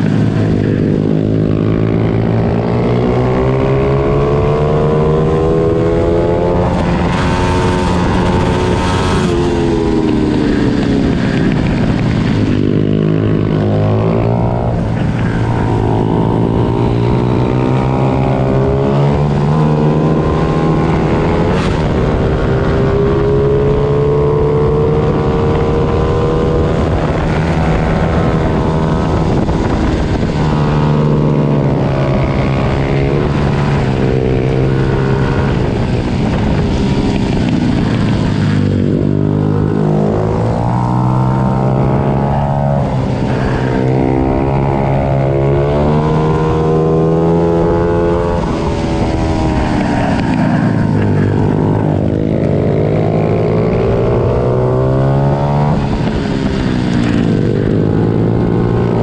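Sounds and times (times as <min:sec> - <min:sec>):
pit bike engines revving: 0:00.0 - 0:59.0.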